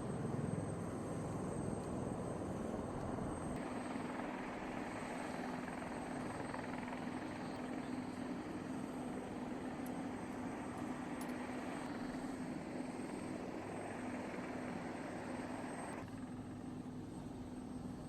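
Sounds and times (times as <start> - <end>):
helicopter engine and rotor: 0.0 - 18.0
steady low hum: 0.0 - 18.0.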